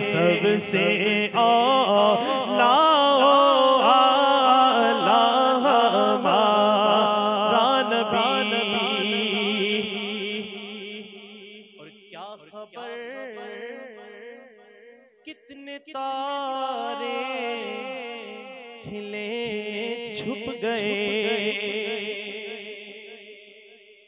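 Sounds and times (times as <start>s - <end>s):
man singing through pa system: 0.0s - 14.2s, 15.3s - 23.4s.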